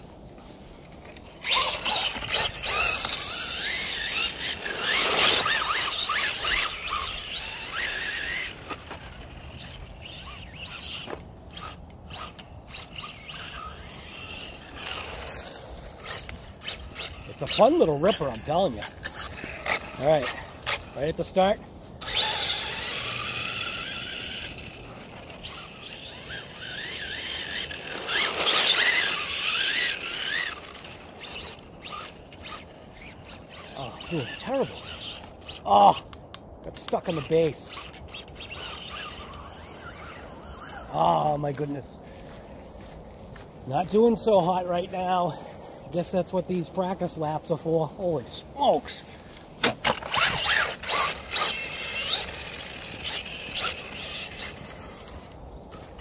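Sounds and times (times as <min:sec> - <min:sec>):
rc car motor whining: 0:01.0 - 0:36.2, 0:36.8 - 0:41.7, 0:47.6 - 0:56.0.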